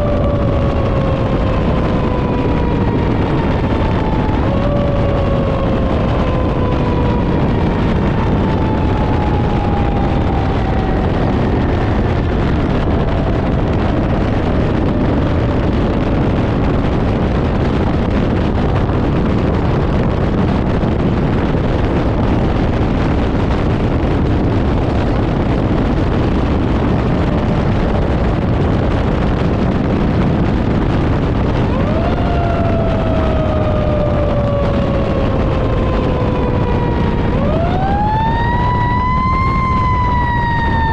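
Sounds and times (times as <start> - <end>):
fire engine rumbling: 0.0 - 40.9
siren: 0.0 - 40.9.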